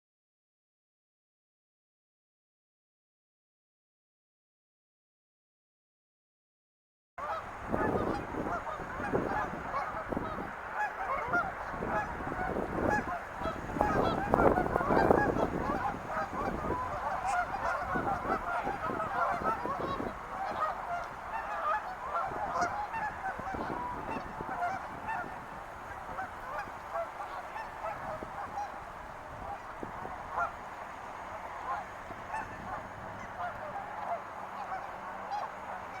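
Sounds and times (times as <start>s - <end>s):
flock of birds calling: 7.2s - 36.0s.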